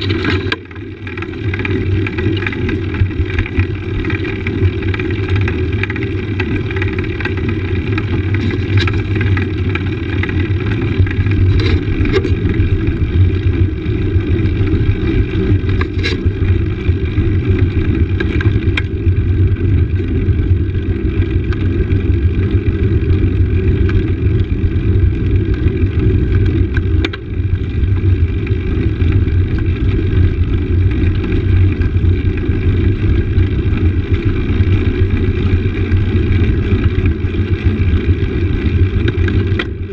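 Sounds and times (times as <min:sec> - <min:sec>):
wind and road rumble: 0:00.0 - 0:39.9.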